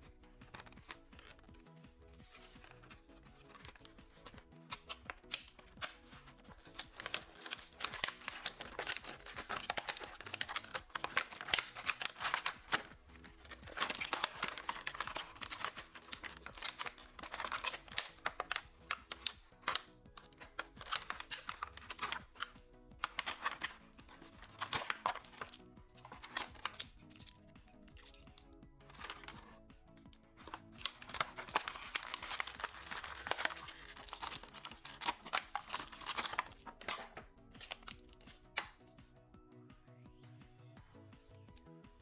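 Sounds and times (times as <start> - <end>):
toy packaging crinkling and tearing: 0.0 - 38.9
soft background music: 0.0 - 42.0.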